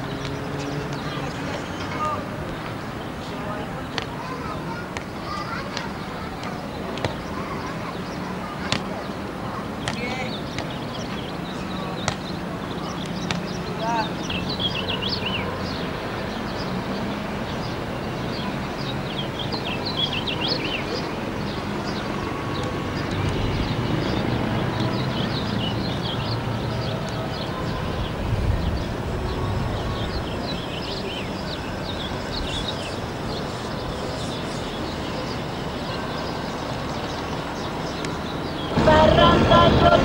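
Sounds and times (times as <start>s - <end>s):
small birds chirping: 0.0s - 40.0s
traffic rumble: 0.0s - 40.0s.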